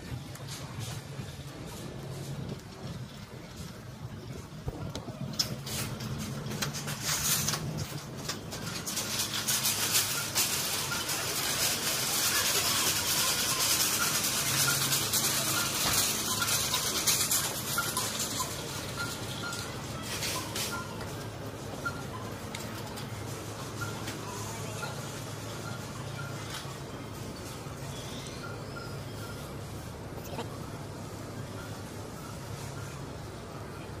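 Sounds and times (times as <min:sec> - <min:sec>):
store background noise: 0:00.0 - 0:34.0.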